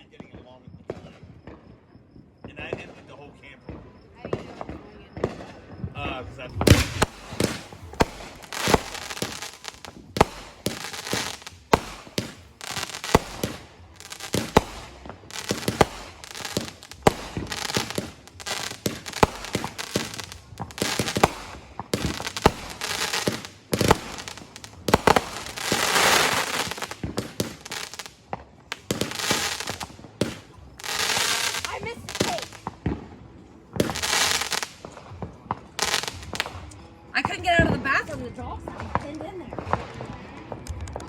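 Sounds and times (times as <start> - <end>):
firework bangs: 0.2 - 41.0
firework crackling: 4.2 - 38.2.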